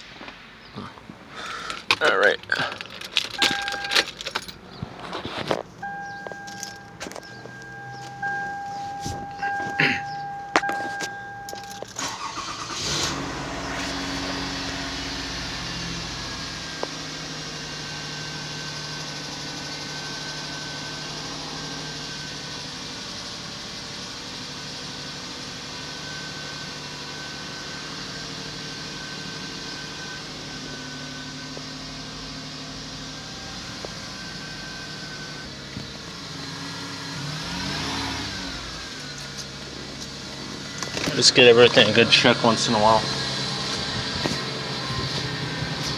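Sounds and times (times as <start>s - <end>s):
engine cranking and idling: 0.0s - 45.9s
car warning tone: 2.0s - 4.6s, 5.5s - 45.9s.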